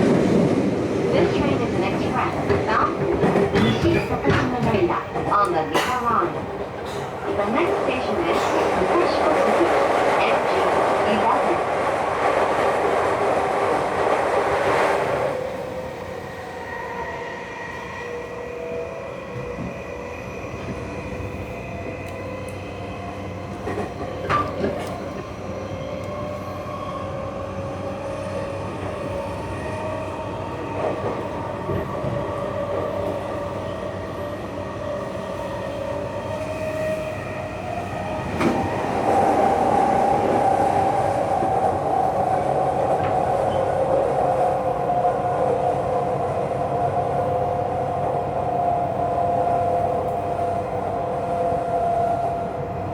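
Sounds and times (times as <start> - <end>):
train wheel and rail noise: 0.0 - 52.9.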